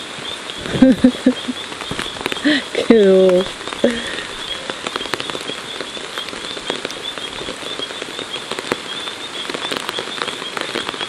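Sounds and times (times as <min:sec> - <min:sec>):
rain falling on vegetation: 0:00.0 - 0:11.0
high chirping: 0:00.3 - 0:11.0.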